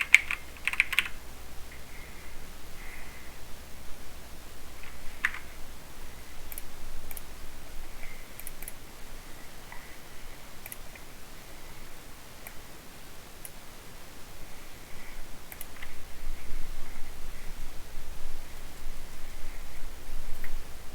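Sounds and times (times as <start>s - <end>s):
steady hiss: 0.0s - 20.9s.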